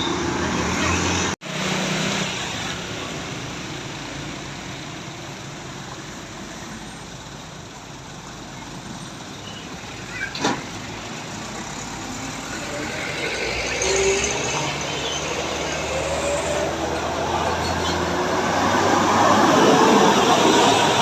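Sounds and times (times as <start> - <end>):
passing traffic: 0.0 - 21.0.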